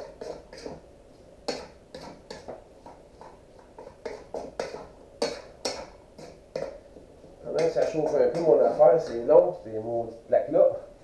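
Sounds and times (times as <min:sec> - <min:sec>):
utensil scraping and clacking on a wok: 0:00.0 - 0:09.2.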